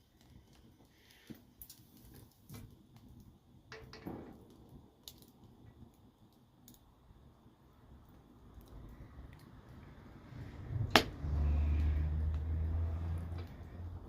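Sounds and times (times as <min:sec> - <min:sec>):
log fire crackling and popping: 0:00.0 - 0:14.0.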